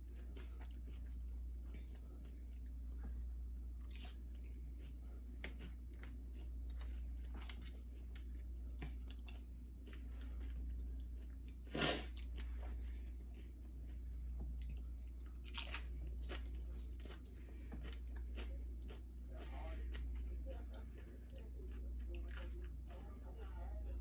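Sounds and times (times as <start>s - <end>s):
chewing and crunching chips: 0.0s - 24.0s.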